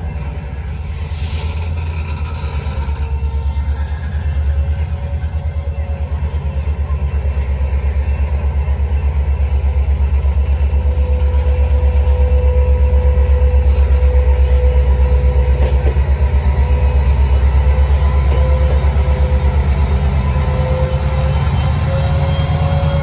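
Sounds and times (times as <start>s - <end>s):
diesel locomotive idling: 0.0s - 23.0s.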